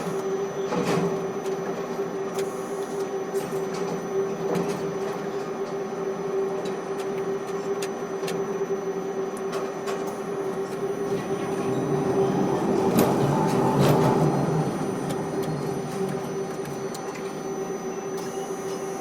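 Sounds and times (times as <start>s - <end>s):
crane machinery humming: 0.0s - 19.0s.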